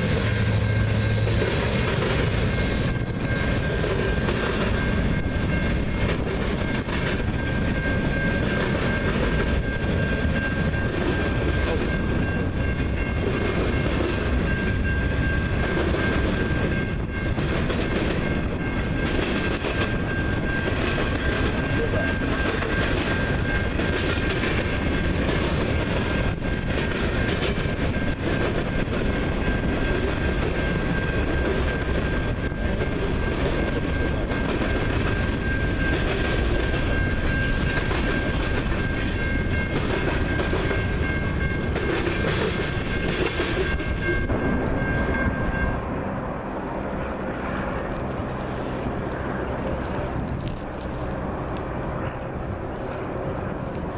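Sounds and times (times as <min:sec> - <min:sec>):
steady high-pitched tone: 0:00.0 - 0:50.2
train wheels on rails: 0:00.0 - 0:53.9.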